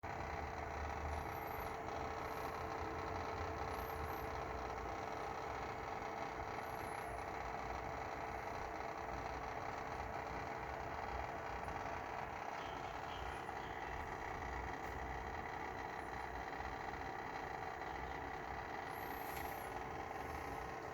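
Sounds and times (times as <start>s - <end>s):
steady hum with constant tone: 0.1s - 20.9s.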